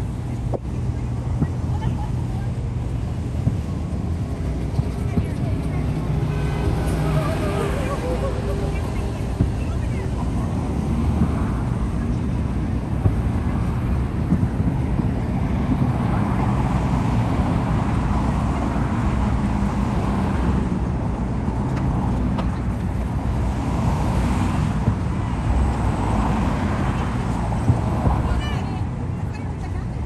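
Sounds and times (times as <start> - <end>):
low outdoor rumbling: 0.0 - 30.0.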